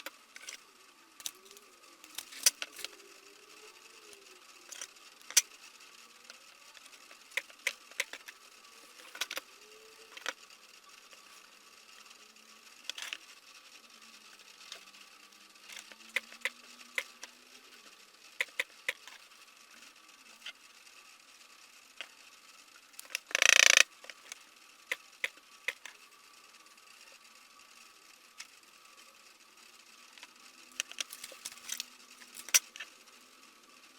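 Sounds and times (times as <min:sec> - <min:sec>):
faint steady background: 0:00.0 - 0:33.9.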